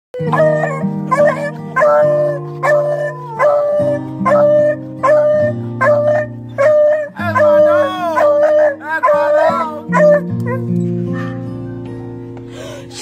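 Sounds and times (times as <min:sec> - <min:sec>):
dog howling: 0:00.2 - 0:10.7
background music with held chords: 0:00.2 - 0:13.0.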